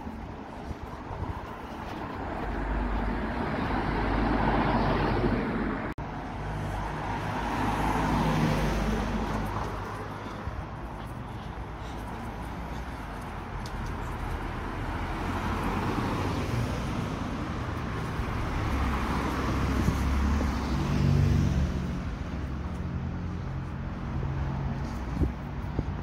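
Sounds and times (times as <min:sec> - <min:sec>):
cars driving past: 0:00.0 - 0:26.0.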